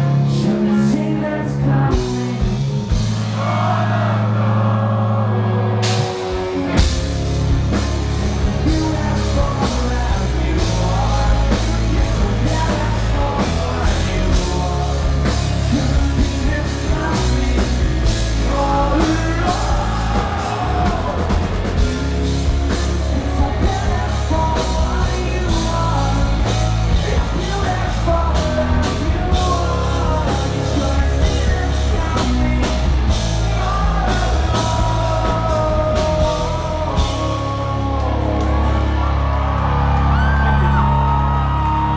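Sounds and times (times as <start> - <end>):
man singing: 0.0 - 2.8, 7.9 - 39.5
bass guitar: 0.0 - 41.9
distorted electric guitars: 0.0 - 41.9
drums: 0.0 - 41.9.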